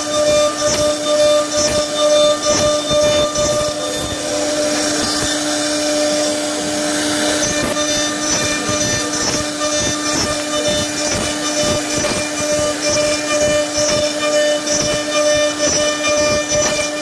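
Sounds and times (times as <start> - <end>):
router spindle whine: 0.0 - 17.0
wood being cut: 0.0 - 17.0.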